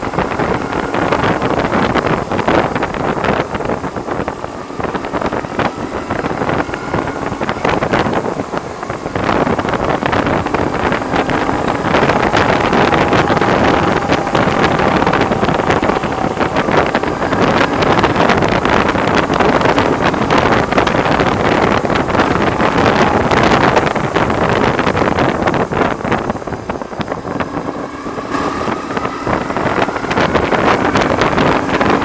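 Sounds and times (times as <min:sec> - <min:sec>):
motorcycle running: 0:00.0 - 0:32.0
wind buffeting microphone: 0:00.0 - 0:32.0.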